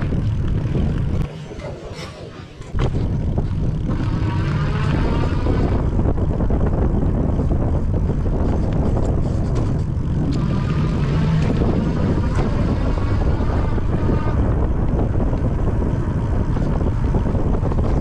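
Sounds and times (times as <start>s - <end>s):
bike rolling noise: 0.0s - 18.0s
wind rumble on microphone: 0.0s - 18.0s.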